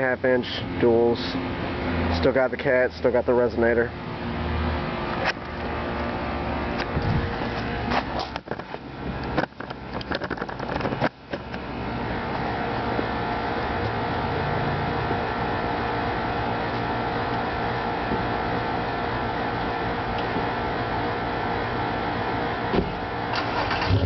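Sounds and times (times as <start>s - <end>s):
car engine droning: 0.0s - 24.0s.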